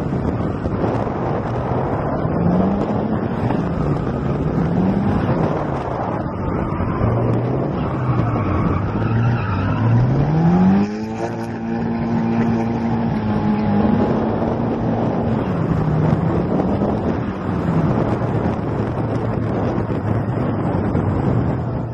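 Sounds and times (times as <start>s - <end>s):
car engine revving: 0.0s - 21.6s
wind rushing: 0.0s - 21.9s.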